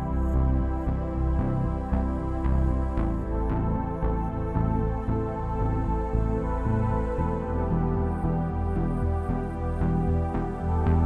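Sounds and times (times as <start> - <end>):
calm ambient synth music: 0.0 - 11.0.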